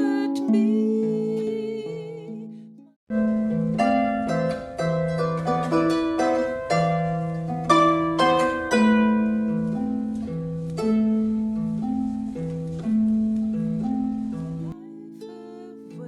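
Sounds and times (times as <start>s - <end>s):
harp music: 0.0s - 16.0s.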